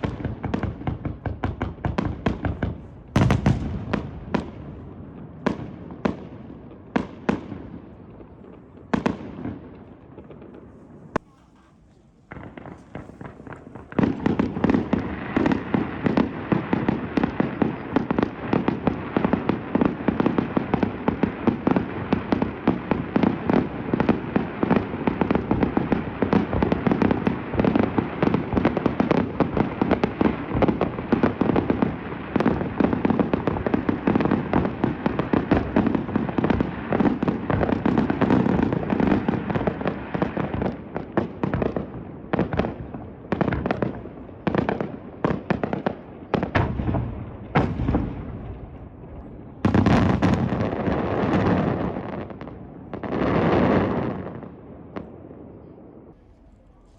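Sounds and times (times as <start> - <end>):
fireworks bangs and crackles: 0.0 - 56.9.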